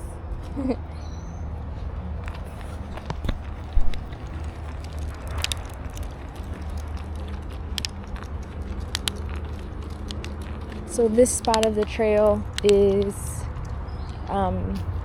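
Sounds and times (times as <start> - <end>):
road traffic rumble: 0.0 - 15.0
footsteps crackling on trail: 0.4 - 15.0.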